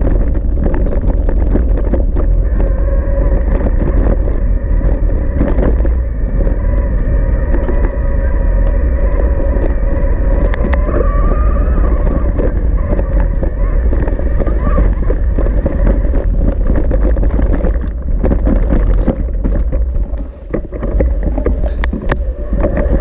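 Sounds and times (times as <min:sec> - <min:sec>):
bike rattling and knocking: 0:00.0 - 0:23.0
steady motor whine: 0:00.0 - 0:23.0
wind buffeting microphone: 0:00.0 - 0:23.0.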